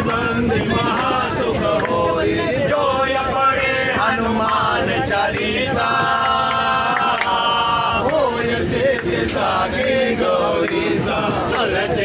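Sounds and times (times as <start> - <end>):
men singing in unison: 0.0 - 12.0.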